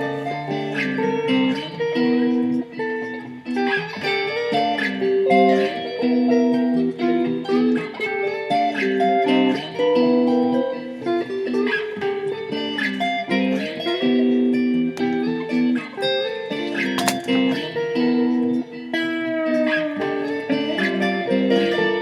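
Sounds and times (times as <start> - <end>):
plucked guitar notes and chords: 0.0 - 22.0.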